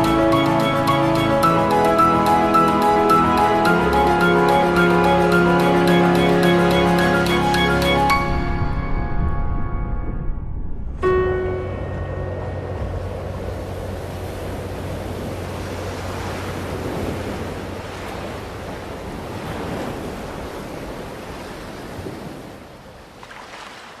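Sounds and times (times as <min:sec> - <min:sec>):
sea waves surf: 0:00.0 - 0:24.0.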